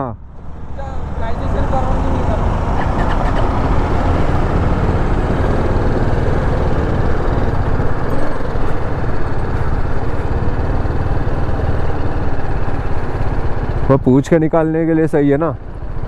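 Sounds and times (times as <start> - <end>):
motorcycle engine running: 0.2 - 16.0.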